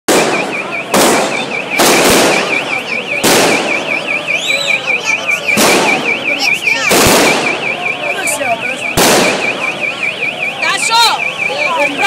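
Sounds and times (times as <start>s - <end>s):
loud bangs: 0.1s - 11.5s
street crowd din: 0.1s - 12.0s
warbling electronic alarm: 0.1s - 12.0s.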